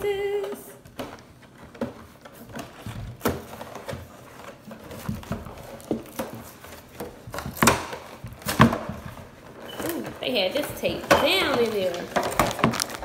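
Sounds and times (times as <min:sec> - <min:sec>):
plastic wrappers rustling: 0:00.0 - 0:13.0.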